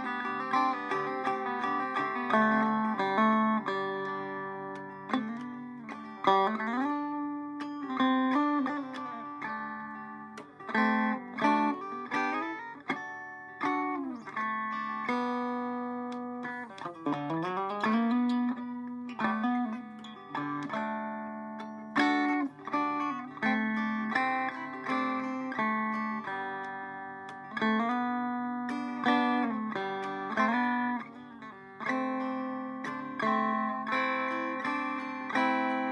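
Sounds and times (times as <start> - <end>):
banjo playing: 0.0 - 35.9.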